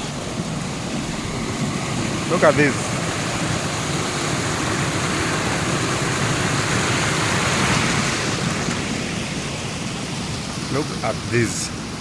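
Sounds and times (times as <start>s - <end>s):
rush of floodwater in river: 0.0s - 12.0s.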